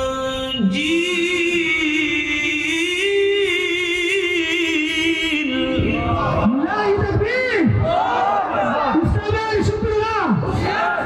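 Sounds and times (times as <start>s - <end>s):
man reciting melodically through microphones: 0.0s - 7.8s, 8.9s - 10.7s.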